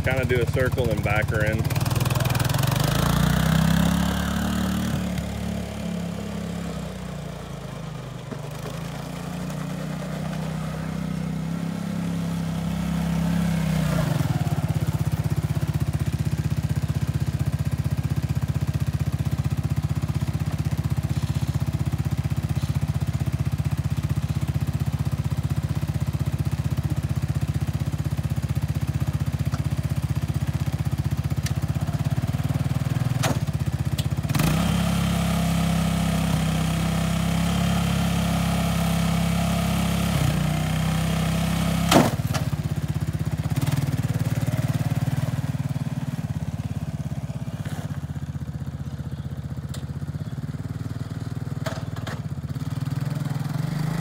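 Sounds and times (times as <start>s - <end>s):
quad engine revving and idling: 0.0s - 54.0s.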